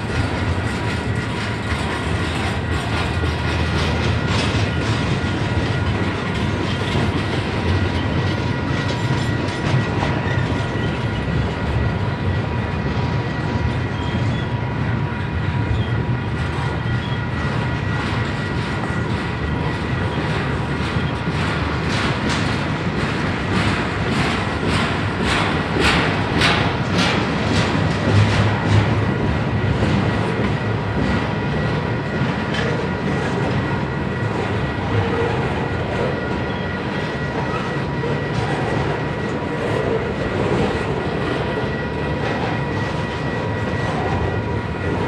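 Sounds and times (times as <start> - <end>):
train wheels rumbling on rail: 0.0 - 45.0
wheels clacking over rail joints: 0.0 - 45.0.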